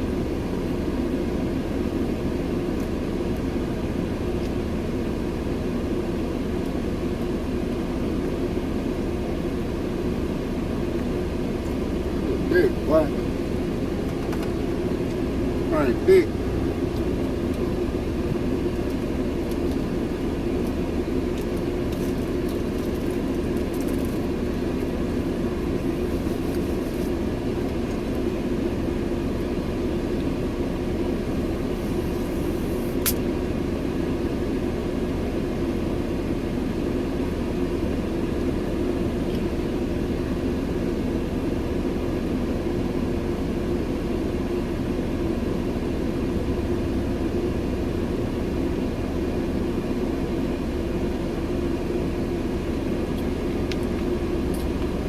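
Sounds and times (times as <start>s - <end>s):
truck engine hum from cab: 0.0s - 55.0s.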